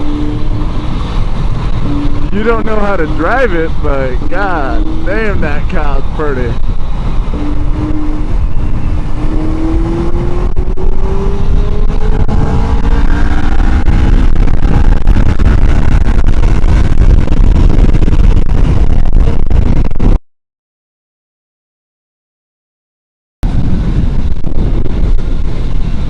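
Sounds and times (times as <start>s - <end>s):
motorcycle engine accelerating: 0.0s - 20.2s, 23.4s - 26.0s
wind noise on microphone: 0.0s - 20.2s, 23.4s - 26.0s.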